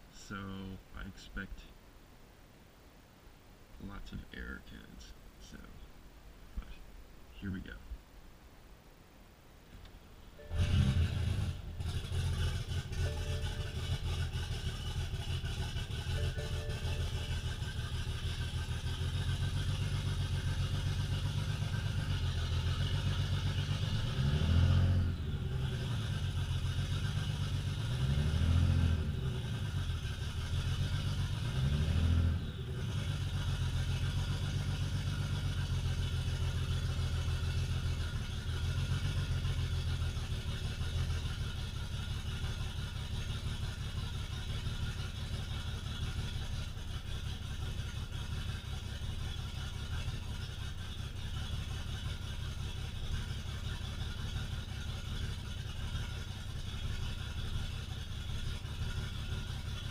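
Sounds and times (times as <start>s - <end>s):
car engine idling and revving: 10.4s - 59.9s.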